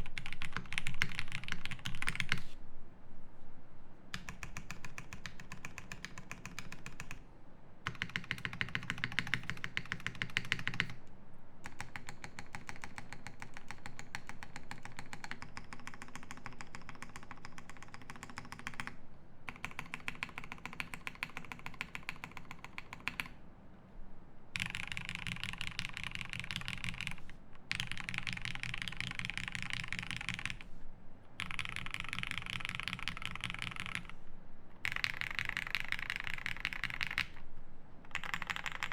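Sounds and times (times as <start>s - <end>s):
fast typing on mechanical keyboard: 0.0s - 2.5s, 4.1s - 7.2s, 7.8s - 11.0s, 11.6s - 23.4s, 24.6s - 30.7s, 31.4s - 34.2s, 34.8s - 37.4s, 38.1s - 38.9s.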